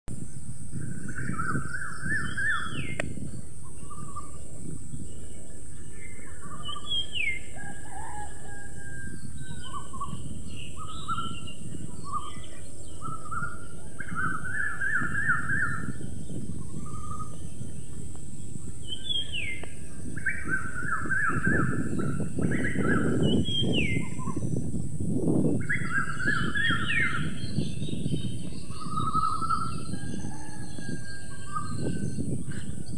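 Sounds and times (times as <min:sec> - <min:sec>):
songbirds chirping and singing: 0:00.2 - 0:32.9.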